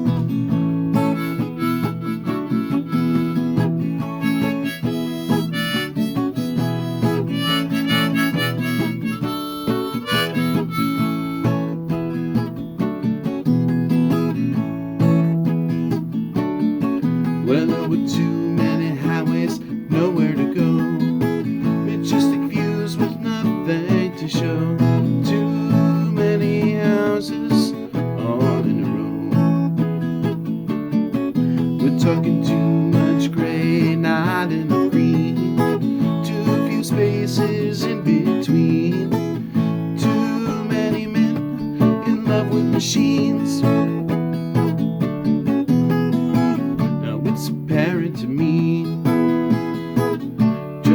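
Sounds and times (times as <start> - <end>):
harmonica melody: 0.0 - 16.1, 16.8 - 50.9
strummed acoustic guitar: 0.0 - 50.9.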